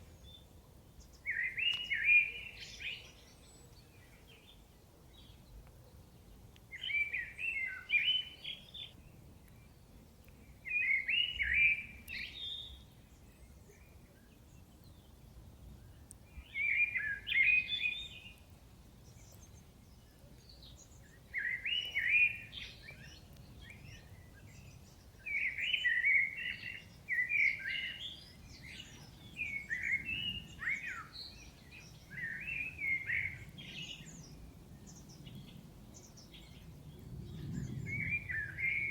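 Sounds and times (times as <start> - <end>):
faint background noise: 0.0 - 38.9.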